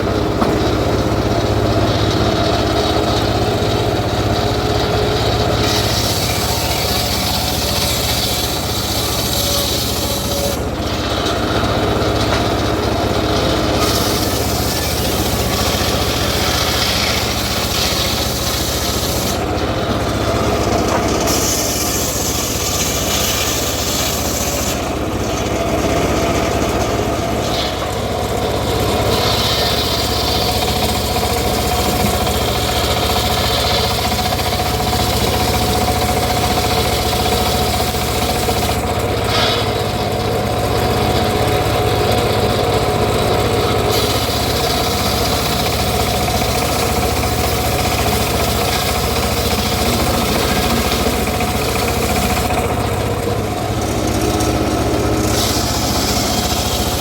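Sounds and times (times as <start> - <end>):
engine hum: 0.0 - 57.0
saw blade cutting wood: 1.8 - 57.0.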